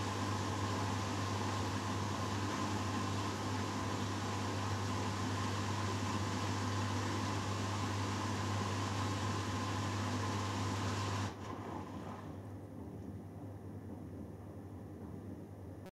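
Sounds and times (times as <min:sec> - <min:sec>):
washing machine spinning: 0:00.0 - 0:15.7.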